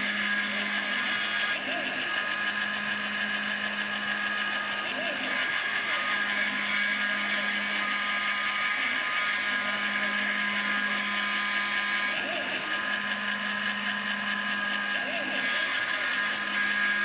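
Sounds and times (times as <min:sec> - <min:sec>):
milling machine whine: 0:00.0 - 0:17.0.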